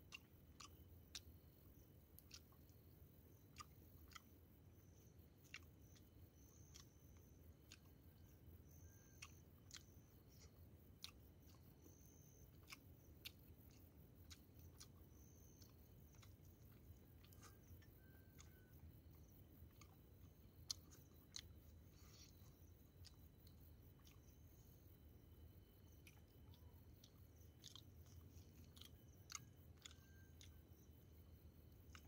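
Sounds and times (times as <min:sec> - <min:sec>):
person chewing: 0:00.1 - 0:04.3, 0:05.4 - 0:24.6, 0:25.6 - 0:30.6.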